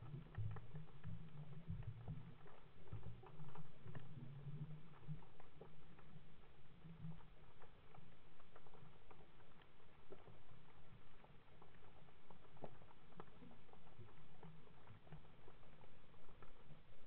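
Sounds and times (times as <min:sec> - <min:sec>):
low underwater rumble: 0:00.0 - 0:17.0
underwater crackle of clicks: 0:00.0 - 0:17.0.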